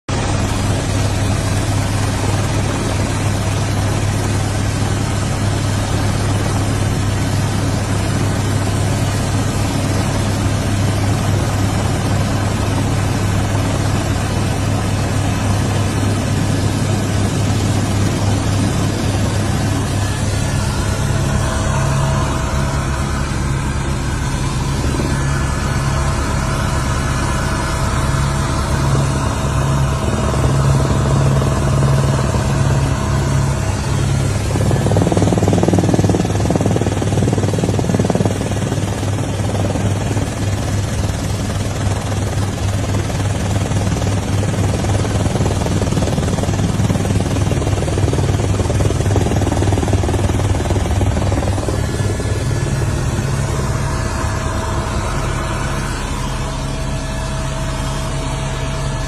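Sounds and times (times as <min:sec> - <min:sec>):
engine running: 0:00.1 - 0:39.5, 0:44.9 - 0:59.0.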